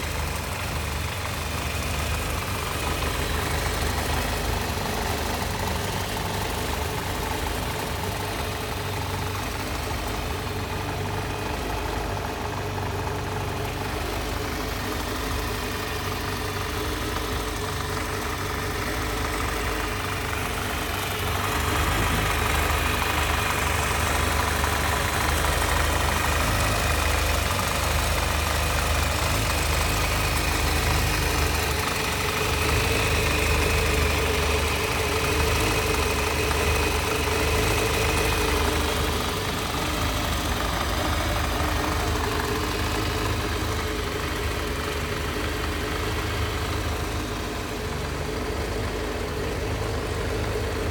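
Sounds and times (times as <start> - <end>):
motorcycle engine idling: 0.0 - 50.9.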